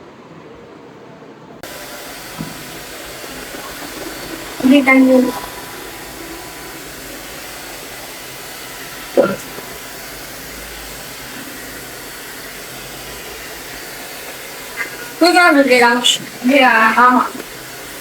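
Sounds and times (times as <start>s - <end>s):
hair dryer blowing air: 1.6s - 18.0s.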